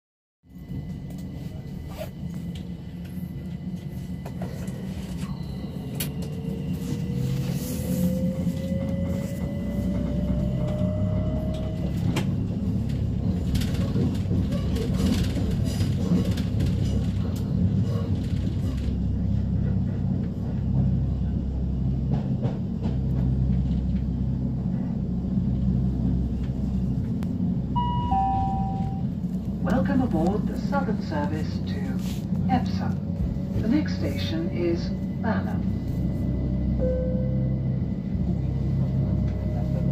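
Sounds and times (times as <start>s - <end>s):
train motors rumbling: 0.5s - 39.9s.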